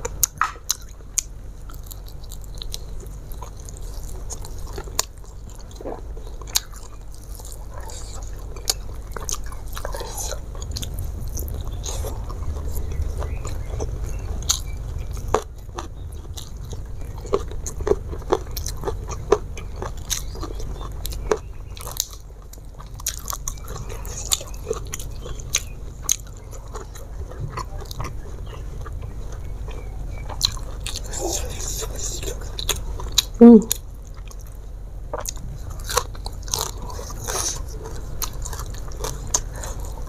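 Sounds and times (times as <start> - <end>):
steady low hum: 0.0 - 40.0
wet chewing: 0.0 - 40.0.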